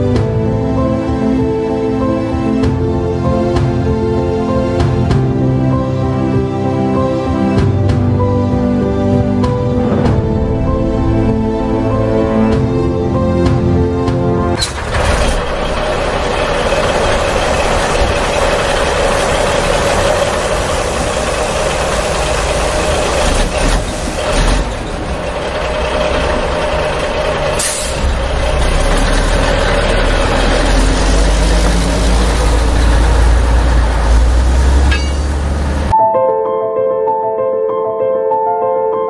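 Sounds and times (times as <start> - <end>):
heavy truck engine rumbling: 0.0 - 36.0.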